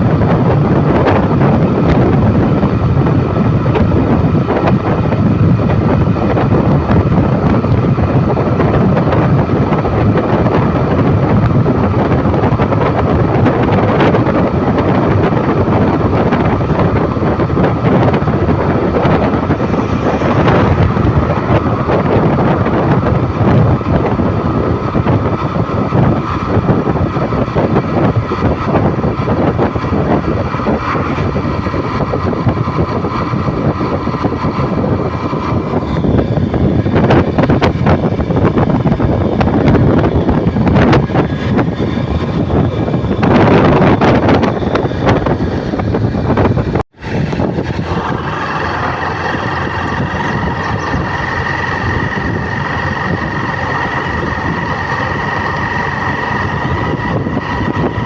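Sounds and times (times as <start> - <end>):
engine and road rumble: 0.0 - 58.0
wind buffeting microphone: 0.0 - 58.0.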